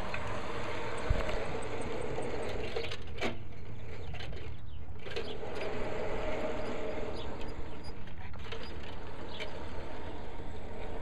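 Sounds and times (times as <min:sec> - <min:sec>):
model train motor whirring: 0:00.0 - 0:03.1, 0:05.1 - 0:11.0
wheels on rails: 0:00.0 - 0:11.0.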